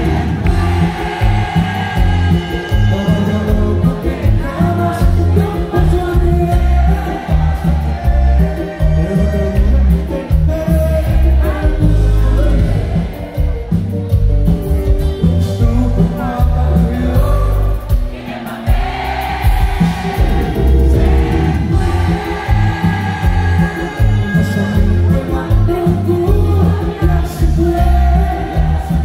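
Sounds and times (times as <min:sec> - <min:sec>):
person singing: 0:00.0 - 0:14.1, 0:15.2 - 0:29.0
bass: 0:00.0 - 0:29.0
drums: 0:00.0 - 0:29.0
electric guitar: 0:00.0 - 0:29.0
keyboards: 0:00.0 - 0:29.0.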